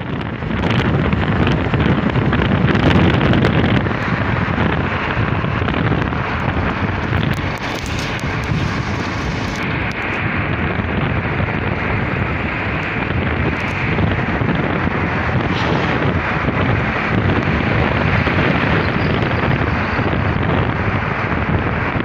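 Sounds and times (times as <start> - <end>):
vehicle road rumble: 0.0 - 22.0
wind rushing over microphone: 0.0 - 22.0.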